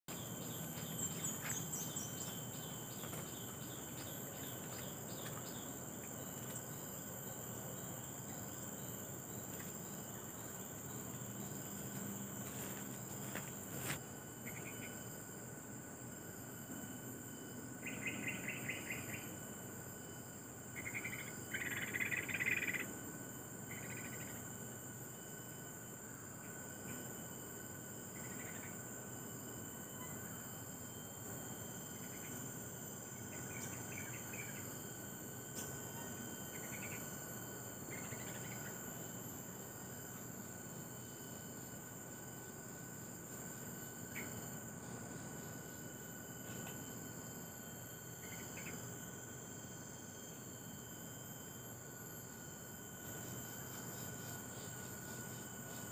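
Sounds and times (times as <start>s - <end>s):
high insect chorus: 0.0s - 55.9s.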